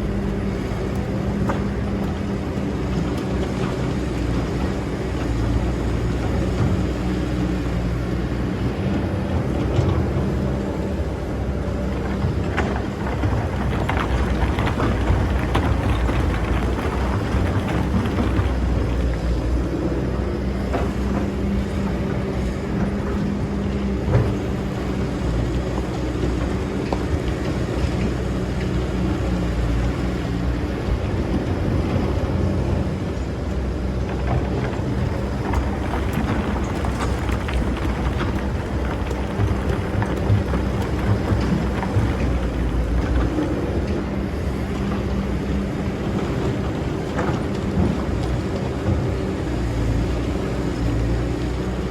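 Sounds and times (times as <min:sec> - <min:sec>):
excavator engine humming: 0:00.0 - 0:51.9.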